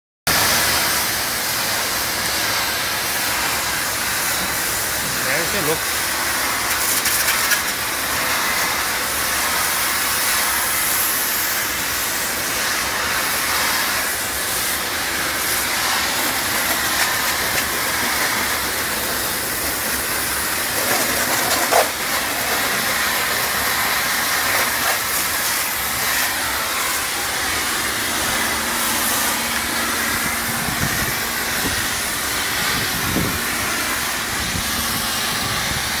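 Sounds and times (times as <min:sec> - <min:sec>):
pressure washer spraying water: 0:00.3 - 0:36.0.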